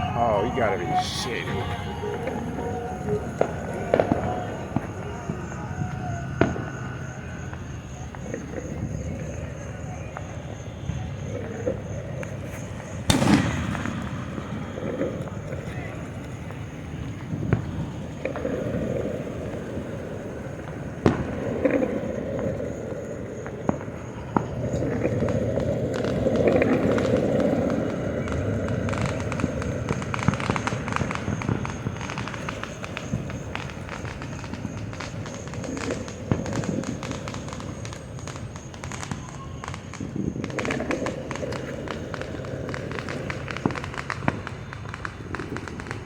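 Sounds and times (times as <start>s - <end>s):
fireworks bangs and pops: 0.0s - 46.0s
fireworks crackling: 0.0s - 46.0s.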